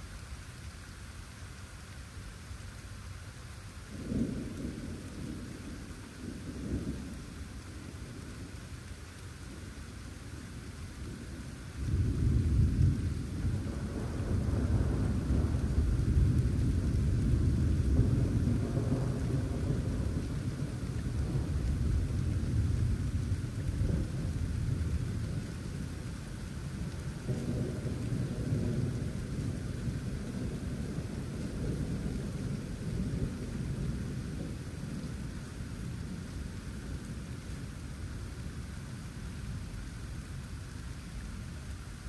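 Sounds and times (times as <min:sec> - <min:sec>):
steady rain: 0:00.0 - 0:42.0
rolling thunder rumble: 0:03.9 - 0:08.7, 0:11.0 - 0:41.4.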